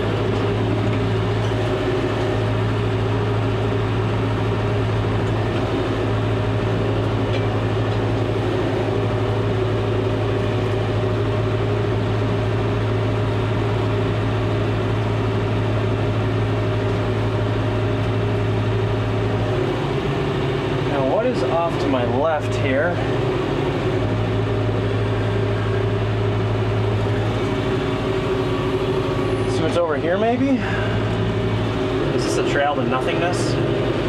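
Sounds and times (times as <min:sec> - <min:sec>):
tractor diesel engine droning: 0:00.0 - 0:34.0.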